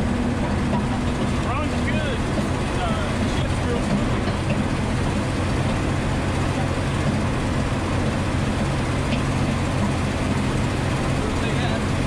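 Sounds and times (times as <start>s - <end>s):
diesel engine droning: 0.0s - 12.0s
road and cab noise: 0.0s - 12.0s.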